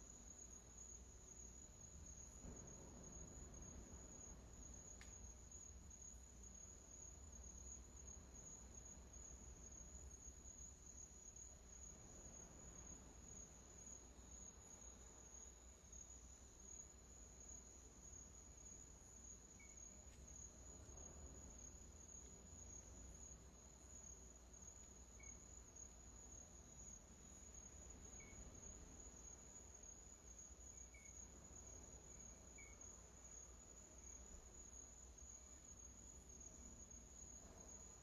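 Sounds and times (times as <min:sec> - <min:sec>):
insect trill: 0:00.0 - 0:38.0.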